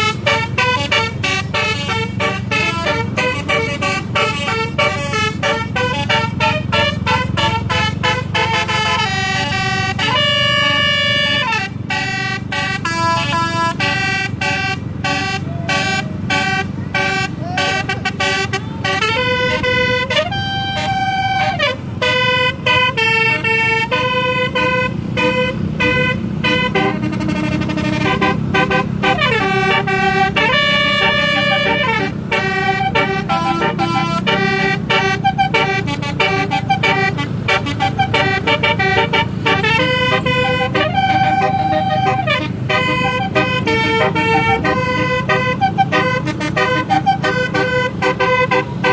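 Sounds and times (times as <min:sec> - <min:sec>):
low engine rumble: 0:00.0 - 0:48.9
musical bus horn melody: 0:00.0 - 0:48.9.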